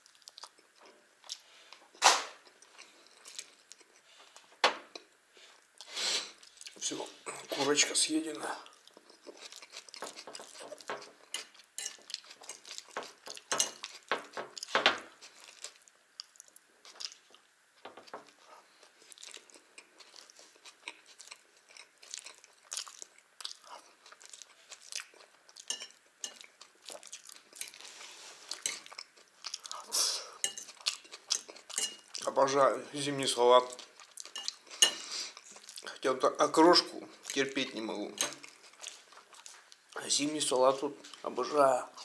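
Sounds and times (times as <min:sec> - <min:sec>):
close-up chewing: 0:00.0 - 0:06.8, 0:08.6 - 0:32.4, 0:33.7 - 0:36.0, 0:38.2 - 0:40.0.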